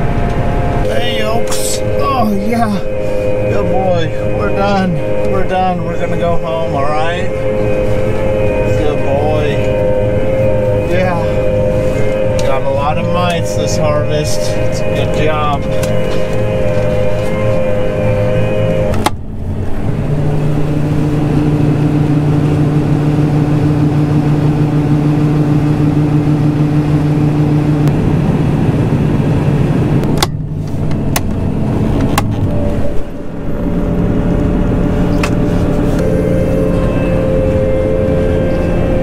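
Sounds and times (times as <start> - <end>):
heavy vehicle engine humming: 0.0 - 39.0.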